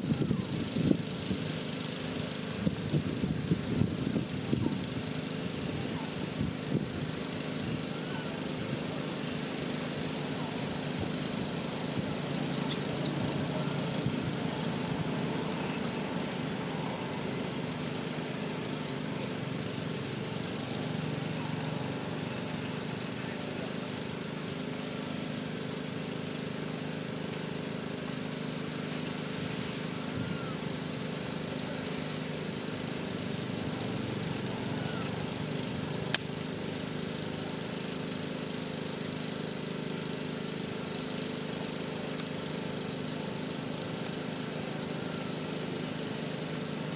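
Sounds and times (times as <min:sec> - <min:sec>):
pulsing mechanical drone: 0:00.0 - 0:41.9.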